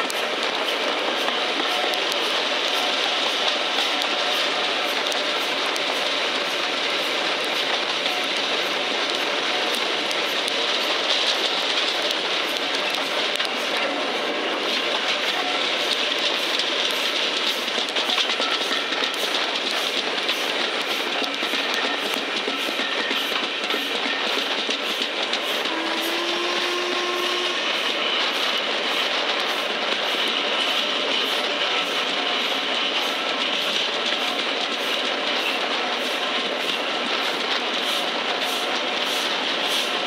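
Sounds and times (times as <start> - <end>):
clickety-clack over rail joints: 0.0 - 40.0
wheels rushing on rail: 0.0 - 40.0.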